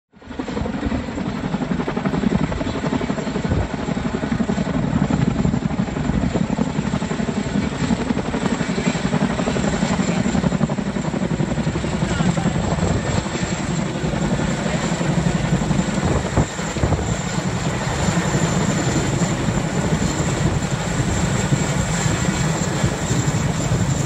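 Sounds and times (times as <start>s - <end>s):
helicopter rotors chopping overhead: 0.2s - 24.0s.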